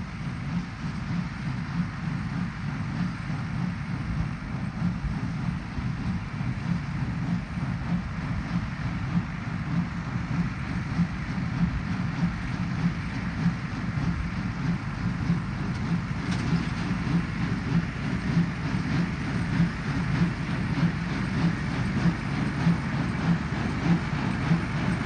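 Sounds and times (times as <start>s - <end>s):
baler machinery pulsing: 0.0s - 25.0s
tractor diesel engine running: 0.0s - 25.0s.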